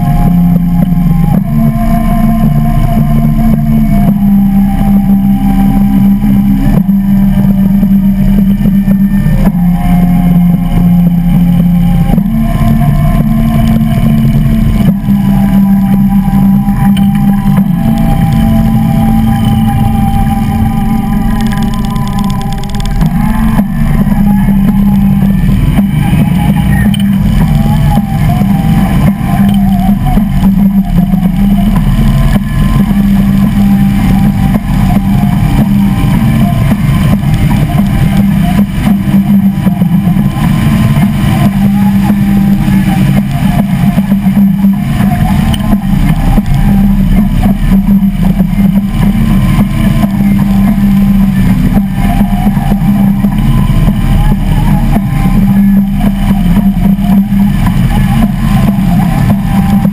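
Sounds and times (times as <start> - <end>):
motorcycle engines running: 0.0 - 59.9.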